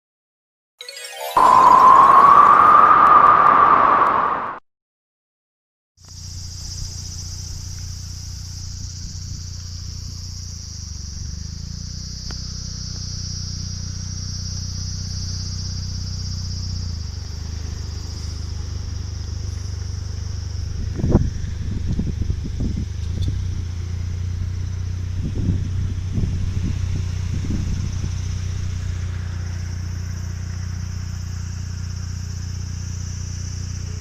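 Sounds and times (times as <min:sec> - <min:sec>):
high drone of insects: 0:01.0 - 0:04.6, 0:06.0 - 0:34.0.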